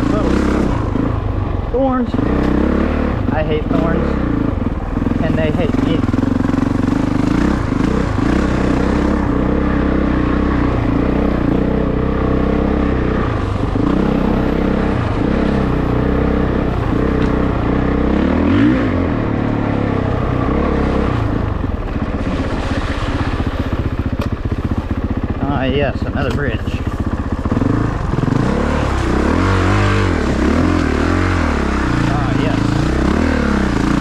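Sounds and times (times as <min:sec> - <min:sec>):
motorbike engine revving: 0:00.0 - 0:34.0.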